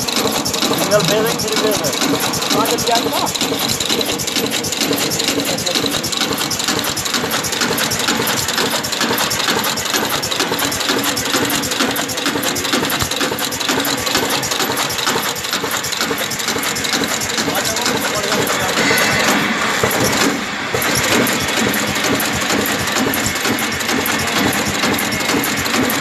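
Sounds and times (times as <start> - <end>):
packing machine clattering: 0.0 - 26.0.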